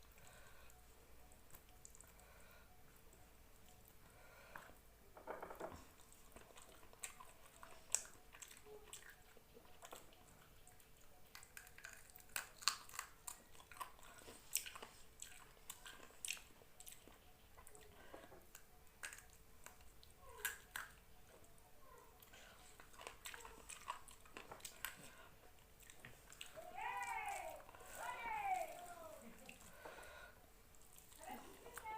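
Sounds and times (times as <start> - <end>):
faint steady hum: 0.0 - 31.9
person chewing food: 0.0 - 31.9.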